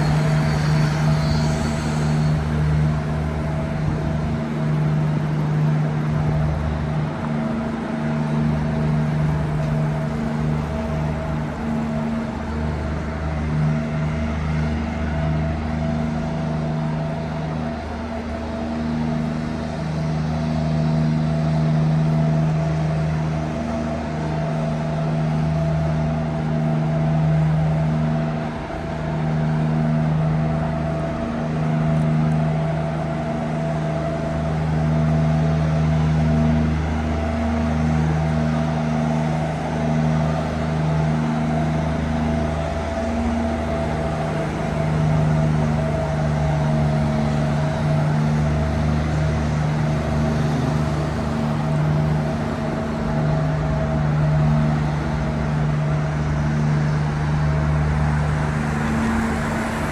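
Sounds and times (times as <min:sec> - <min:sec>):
city traffic hum: 0:00.0 - 0:59.9.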